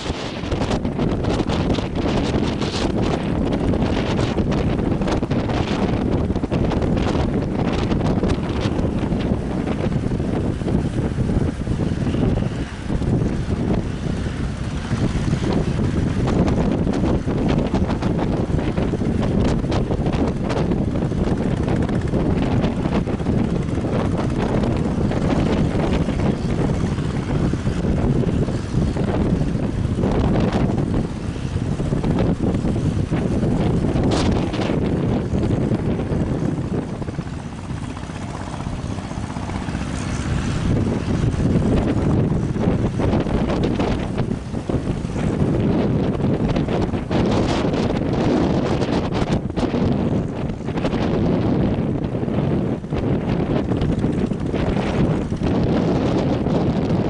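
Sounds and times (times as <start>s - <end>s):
boat engine rumbling: 0.0s - 57.0s
sea noise: 0.0s - 57.0s
wind buffeting microphone: 0.0s - 57.0s.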